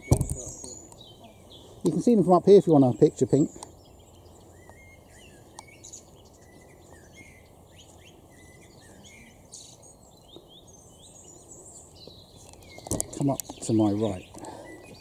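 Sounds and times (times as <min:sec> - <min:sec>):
low background noise: 0:00.0 - 0:15.0
songbirds chirping: 0:00.0 - 0:15.0.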